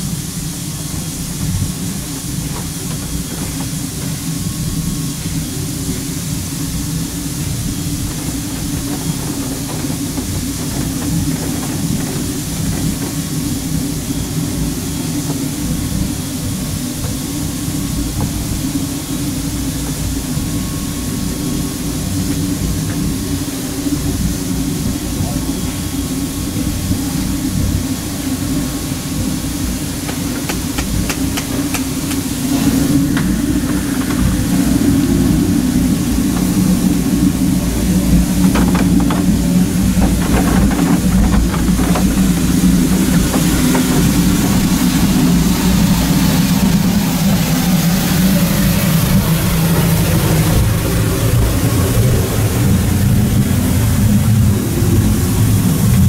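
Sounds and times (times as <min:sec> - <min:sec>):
steam locomotive rumbling: 0:00.0 - 0:56.0.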